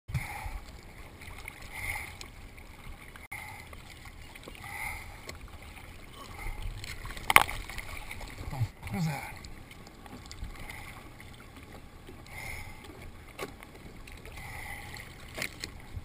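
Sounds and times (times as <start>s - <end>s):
muffled water sloshing: 0.1s - 16.0s.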